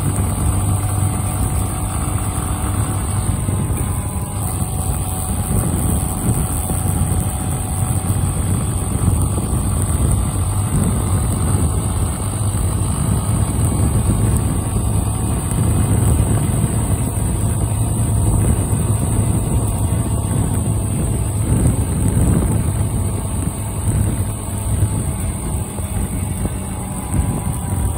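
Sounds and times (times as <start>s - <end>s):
motorcycle engine cruising: 0.0s - 27.9s
rushing wind: 0.0s - 27.9s.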